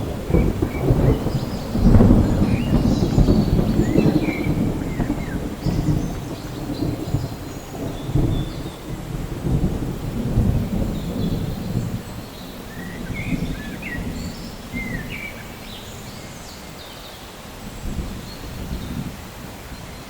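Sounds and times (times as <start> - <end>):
rolling thunder: 0.0 - 16.5, 17.7 - 19.8
steady rain: 0.0 - 20.0.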